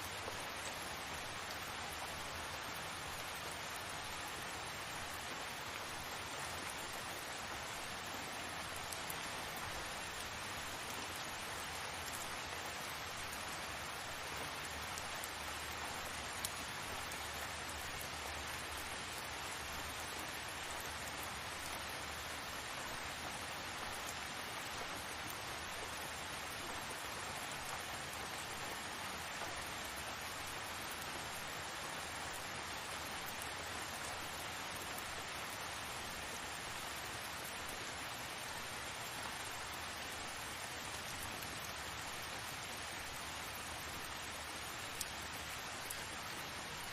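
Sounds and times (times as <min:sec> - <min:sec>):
faint ticks: 0:00.0 - 0:46.9
steady rain hiss: 0:00.0 - 0:46.9.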